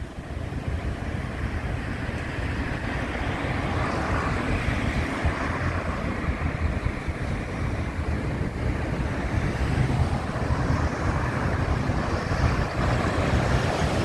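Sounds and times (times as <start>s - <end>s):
passing vehicle: 0.0s - 14.0s
wind rumble on microphone: 0.0s - 14.0s.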